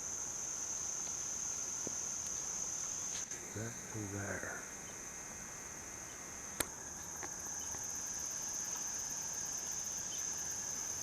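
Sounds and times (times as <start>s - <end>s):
crickets and insects chirping: 0.0s - 11.0s.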